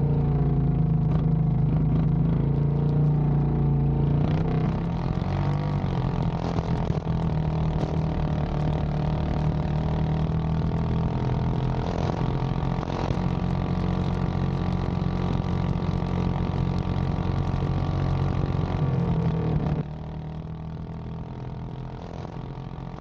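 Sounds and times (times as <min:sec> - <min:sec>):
large engine droning: 0:00.0 - 0:23.0.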